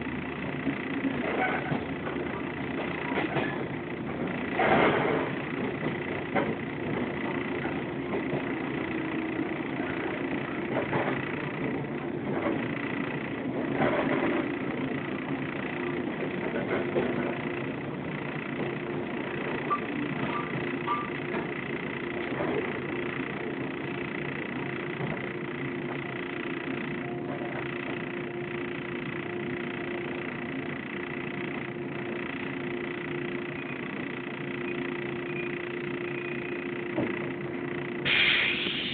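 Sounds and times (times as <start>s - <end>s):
constant electric tones: 0.0s - 38.9s
train equipment hum: 0.0s - 38.9s.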